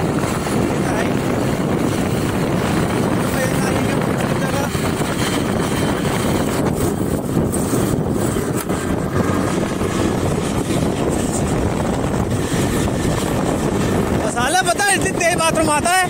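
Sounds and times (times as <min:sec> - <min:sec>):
motorcycle engine: 0:00.0 - 0:16.0
wind rushing over microphone: 0:00.0 - 0:16.0.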